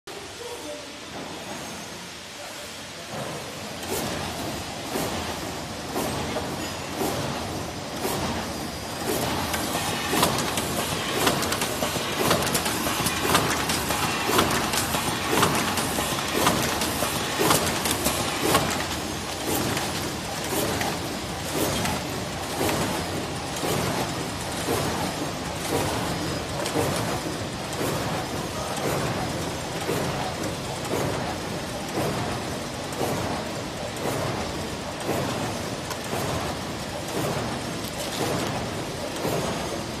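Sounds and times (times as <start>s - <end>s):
machine clacking: 3.1s - 40.0s
machine clattering: 3.1s - 40.0s.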